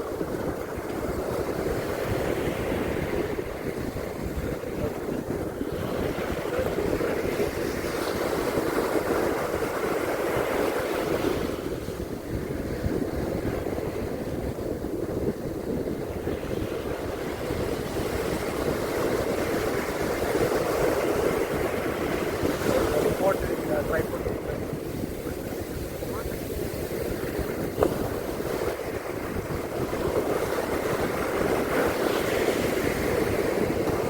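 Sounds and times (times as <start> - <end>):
ocean surf washing onto beach: 0.0 - 34.0
wind rumbling on microphone: 0.0 - 34.0.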